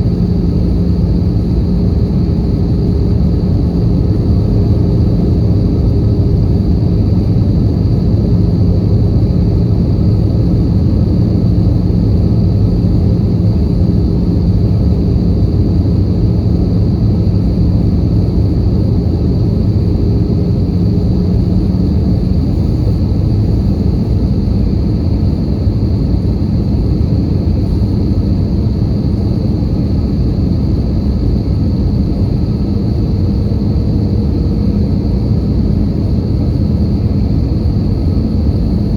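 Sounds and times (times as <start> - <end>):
engine and airflow rumble: 0.0 - 38.9.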